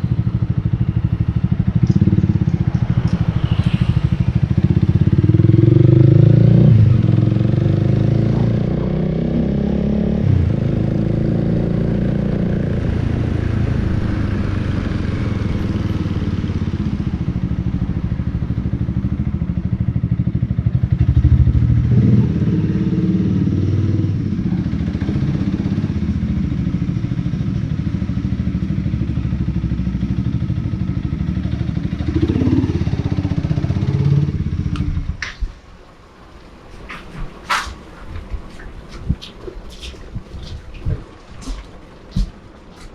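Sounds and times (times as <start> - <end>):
motorcycle engine running: 0.0 - 35.3.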